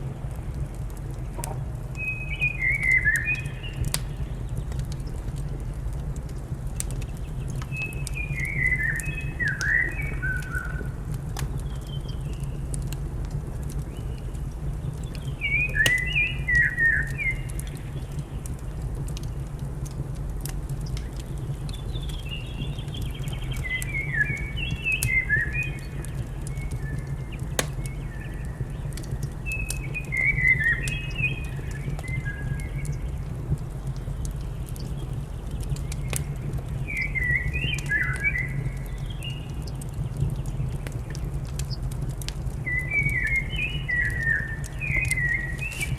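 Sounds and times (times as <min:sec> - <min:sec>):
wood fire rumbling and crackling: 0:00.0 - 0:45.9
birds chirping: 0:02.0 - 0:05.2, 0:06.9 - 0:12.8, 0:13.8 - 0:18.7, 0:20.8 - 0:33.3, 0:34.0 - 0:41.9, 0:42.6 - 0:45.9.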